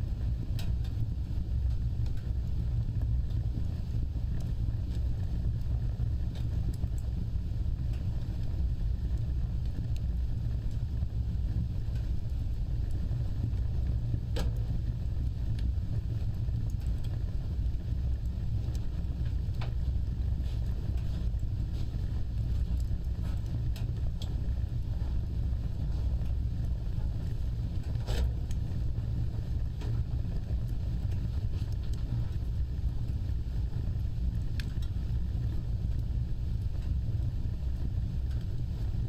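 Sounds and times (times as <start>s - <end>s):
fire crackling: 0.0s - 39.0s
fire flames rumbling: 0.0s - 39.0s.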